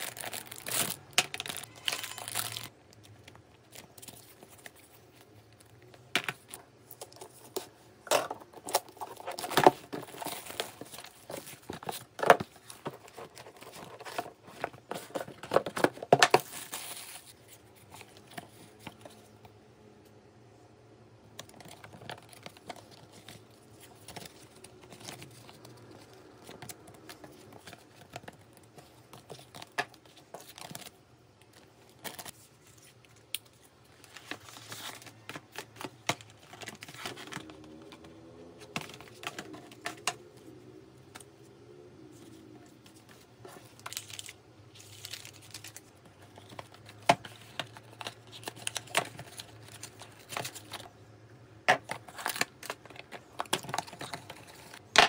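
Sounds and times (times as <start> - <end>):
paper packaging rustling: 0.0 - 19.3, 21.4 - 40.1, 42.0 - 51.0, 51.7 - 55.0.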